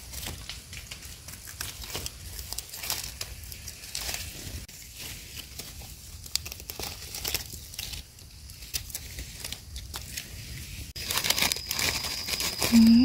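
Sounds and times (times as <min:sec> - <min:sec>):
dry leaves crackling and rustling: 0:00.0 - 0:13.0.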